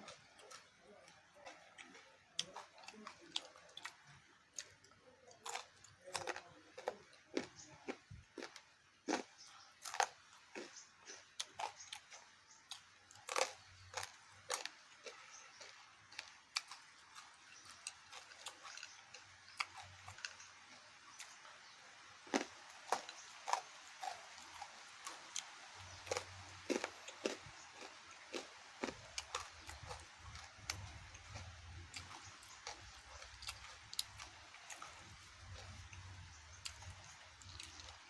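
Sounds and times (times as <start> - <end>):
person chewing crunchily: 0.0 - 38.0.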